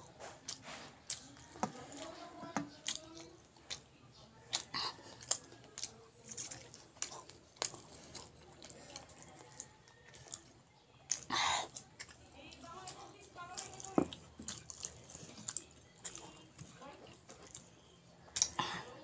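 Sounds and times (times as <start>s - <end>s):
wet chewing: 0.0s - 19.0s.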